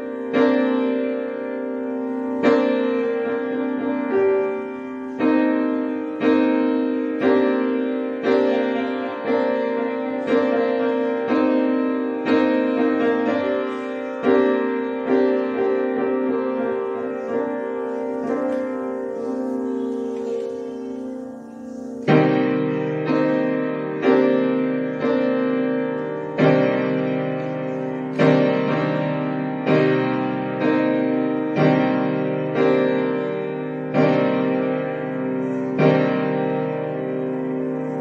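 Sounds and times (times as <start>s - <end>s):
piano chords: 0.0s - 38.0s.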